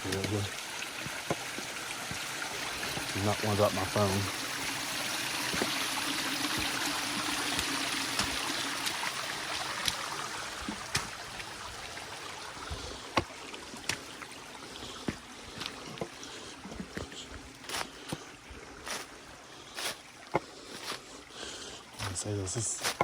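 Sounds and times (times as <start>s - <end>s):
creek water running over rock: 0.0s - 23.0s.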